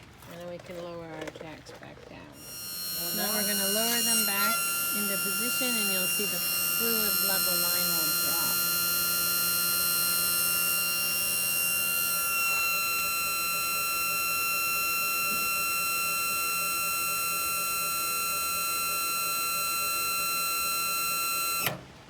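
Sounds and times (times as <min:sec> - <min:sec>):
electric pump motor whining: 0:00.0 - 0:22.0.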